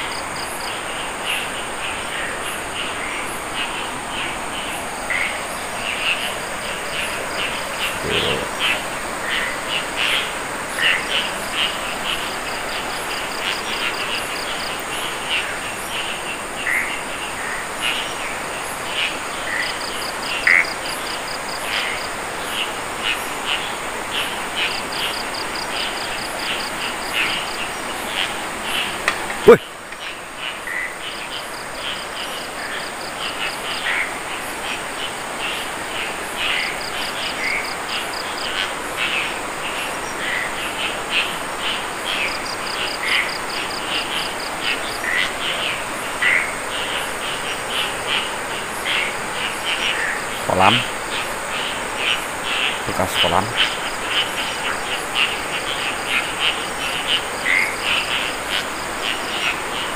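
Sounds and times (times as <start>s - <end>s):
cricket trills: 0.0s - 59.9s
frog calls: 0.0s - 59.9s
high insect drone: 0.0s - 59.9s.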